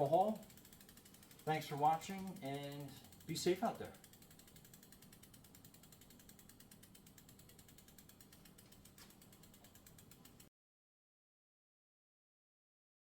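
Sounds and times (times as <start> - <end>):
bicycle freewheel clicking: 0.0 - 10.5.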